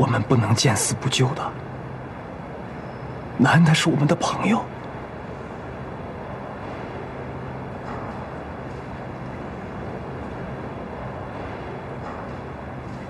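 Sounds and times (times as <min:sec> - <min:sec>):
steady background drone: 0:00.0 - 0:13.0.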